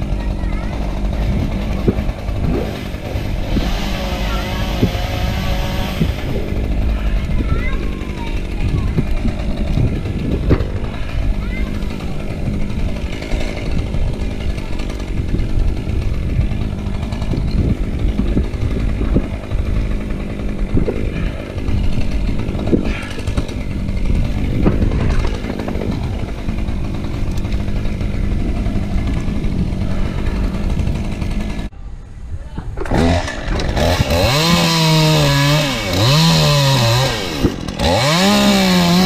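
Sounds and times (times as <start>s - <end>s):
chainsaw running: 0.0s - 31.7s, 32.8s - 39.0s.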